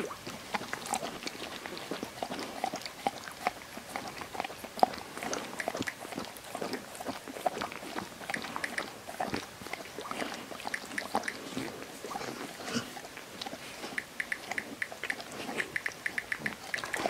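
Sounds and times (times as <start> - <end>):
dog licking puppy: 0.0 - 17.0.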